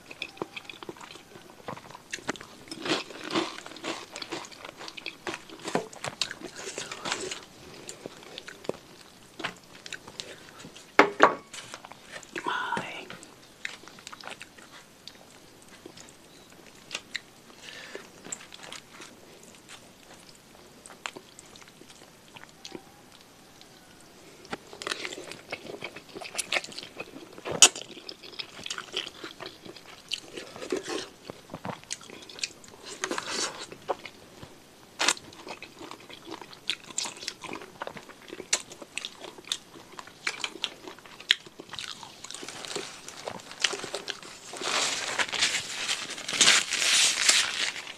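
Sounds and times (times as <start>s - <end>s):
wet chewing: 0.0s - 12.4s, 13.2s - 46.8s.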